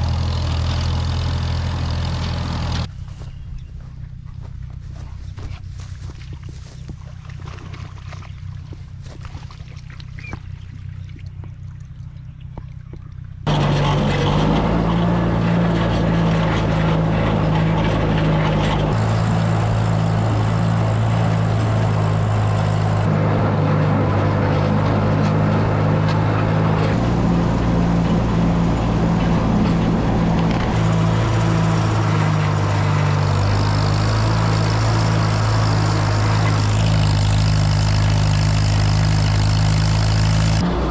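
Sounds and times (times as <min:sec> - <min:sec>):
tractor engine droning: 0:00.0 - 0:07.2, 0:10.2 - 0:40.9.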